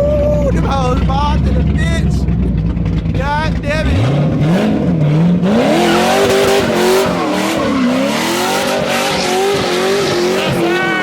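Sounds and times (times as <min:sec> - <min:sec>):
car engine revving: 0:00.0 - 0:11.0
tires squealing: 0:00.0 - 0:11.0.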